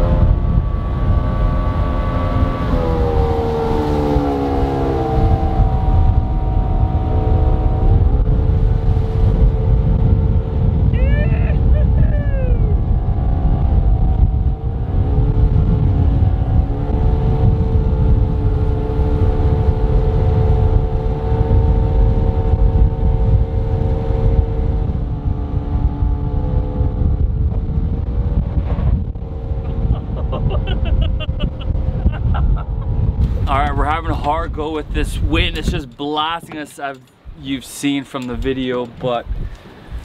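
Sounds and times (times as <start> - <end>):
boat engine running: 0.0 - 40.0
wind buffeting microphone: 0.0 - 40.0.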